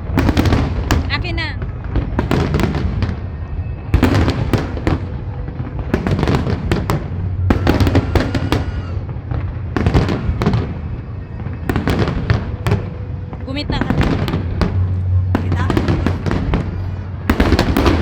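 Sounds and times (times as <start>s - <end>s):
fireworks cracking and banging: 0.0s - 18.0s
low rumble: 1.6s - 18.0s.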